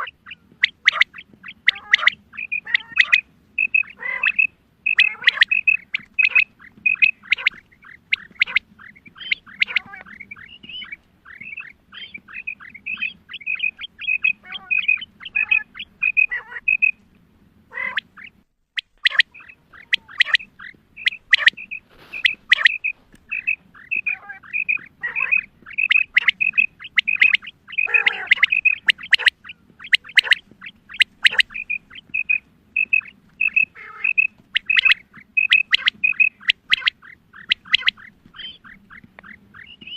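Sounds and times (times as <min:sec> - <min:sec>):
quail calling short chirps: 0:00.0 - 0:17.1, 0:17.7 - 0:39.9.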